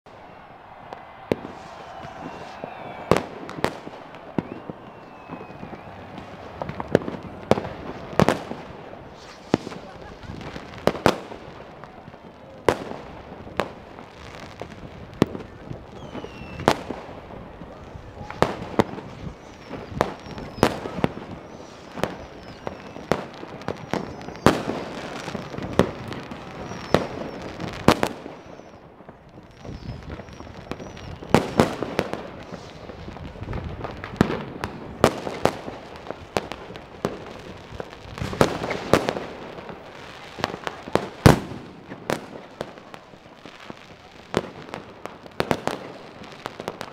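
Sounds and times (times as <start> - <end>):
firecrackers banging: 0.1 - 46.9
firework whistles: 0.1 - 46.9.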